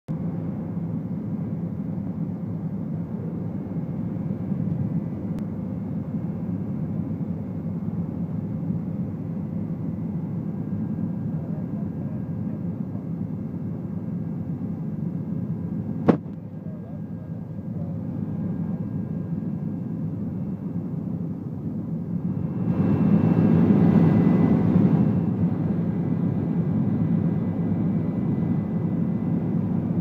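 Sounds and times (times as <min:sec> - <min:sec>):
faint steady whine: 0:00.2 - 0:30.0
helicopter engine and rotor rumble: 0:00.2 - 0:30.0.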